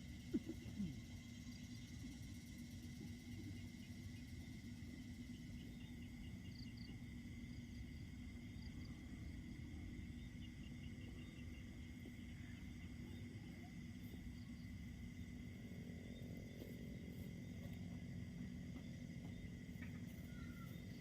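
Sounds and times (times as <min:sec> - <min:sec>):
insects chirping: 0:00.0 - 0:21.0
low steady rumble: 0:00.0 - 0:21.0.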